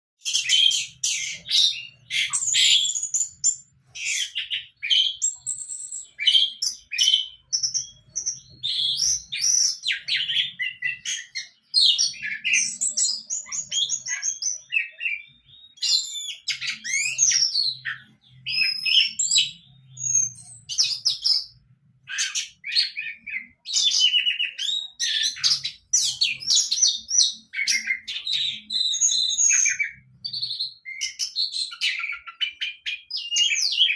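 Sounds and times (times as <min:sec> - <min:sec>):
bird singing chirps and warbles: 0:00.2 - 0:33.9.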